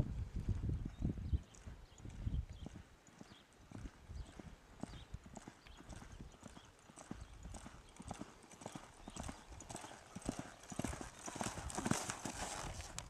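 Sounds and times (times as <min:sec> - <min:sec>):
horse hoofbeats on soft dirt: 0:00.0 - 0:13.0.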